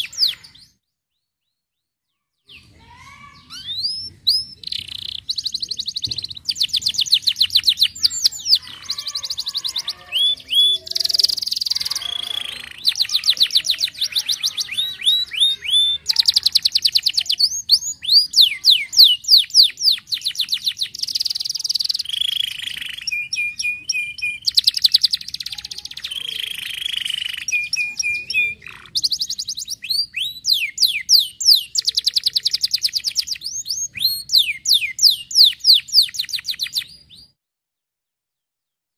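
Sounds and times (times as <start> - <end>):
canary singing fast trills: 0.0 - 37.4.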